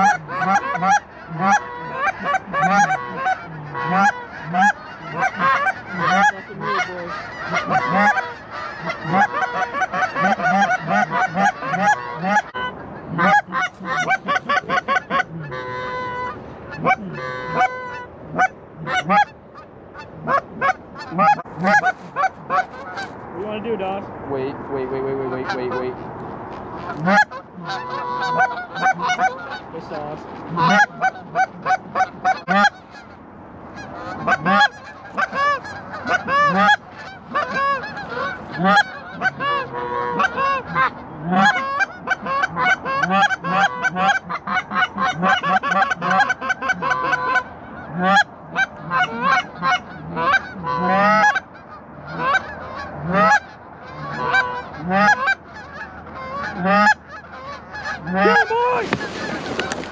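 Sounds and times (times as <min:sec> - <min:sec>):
geese honking: 0:00.0 - 0:23.8, 0:24.9 - 0:26.1, 0:26.7 - 0:59.9.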